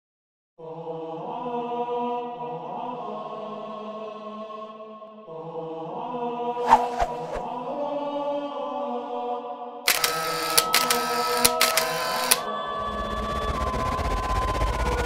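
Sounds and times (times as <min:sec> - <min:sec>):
droning chant-like music: 0:00.6 - 0:06.6, 0:07.4 - 0:15.0.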